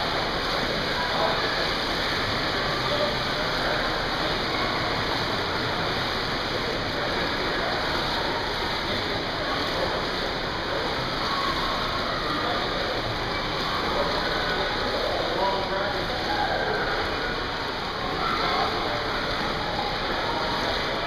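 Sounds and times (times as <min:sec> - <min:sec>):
swimmers splashing water: 0:00.0 - 0:21.0.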